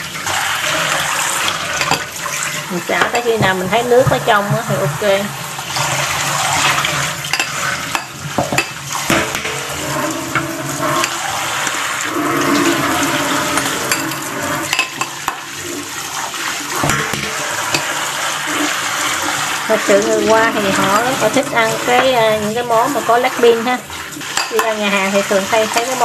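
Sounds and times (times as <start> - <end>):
water splashing through strainer: 0.0 - 26.0.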